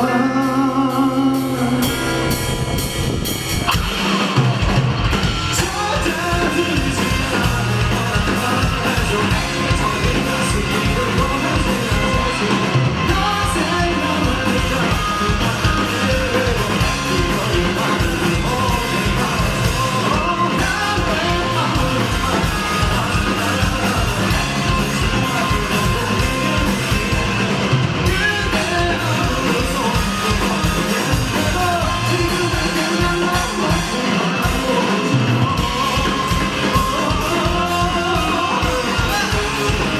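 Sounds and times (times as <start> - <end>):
person singing: 0.0 - 4.7, 5.3 - 39.9
rock band playing live: 0.0 - 39.9.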